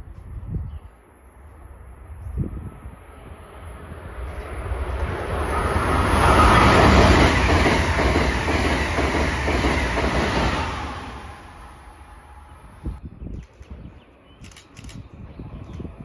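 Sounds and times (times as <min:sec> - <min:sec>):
high-speed train passing: 0:00.0 - 0:16.0.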